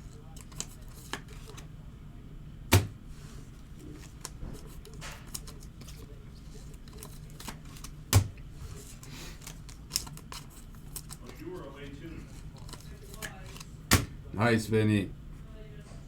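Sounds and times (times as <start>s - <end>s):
trading cards rustling: 0.0s - 1.7s, 2.7s - 14.1s.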